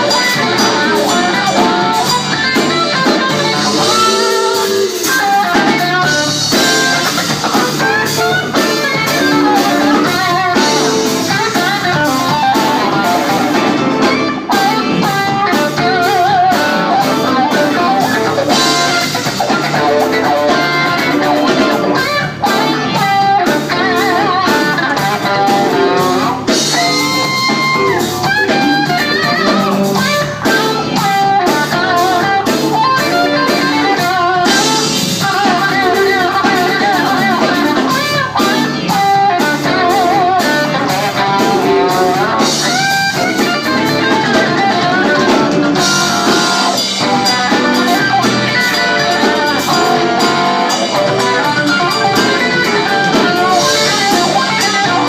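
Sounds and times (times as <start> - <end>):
electric blues band playing: 0.0 - 55.0
lead electric guitar bent notes: 0.0 - 55.0.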